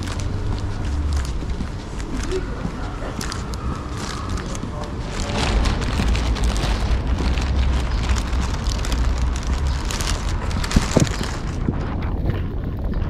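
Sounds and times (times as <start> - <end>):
footsteps on pavement: 0.0 - 12.4
wind buffeting microphone: 0.0 - 13.0.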